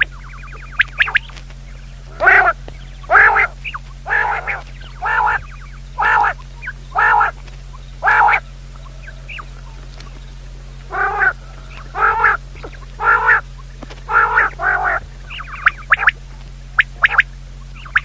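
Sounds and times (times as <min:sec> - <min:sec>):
bird giving harsh calls: 0:00.0 - 0:18.0.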